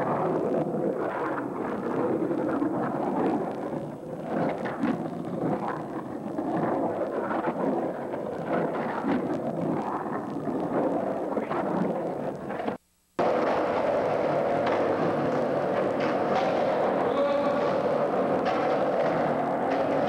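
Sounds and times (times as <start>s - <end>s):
skateboard clacks: 0.0s - 20.0s
skateboard wheels rolling on concrete: 0.0s - 20.0s.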